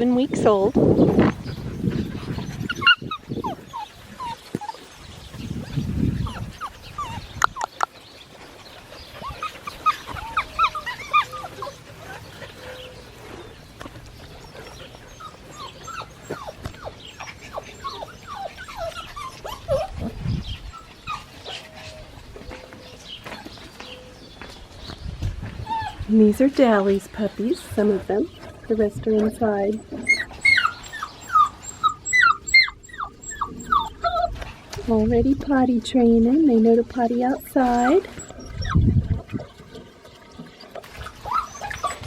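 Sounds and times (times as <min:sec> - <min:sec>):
puppies yipping and whimpering: 0:00.4 - 0:24.3, 0:25.6 - 0:26.1, 0:27.8 - 0:34.9, 0:37.6 - 0:39.7, 0:40.4 - 0:42.0.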